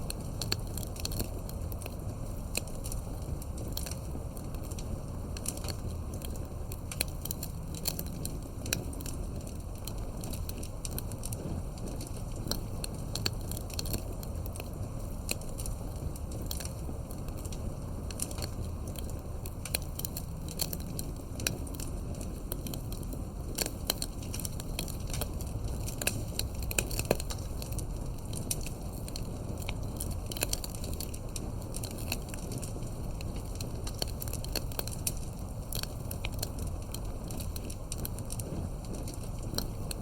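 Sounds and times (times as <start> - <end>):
fire burning: 0.0 - 40.0
fire popping and snapping: 0.0 - 40.0.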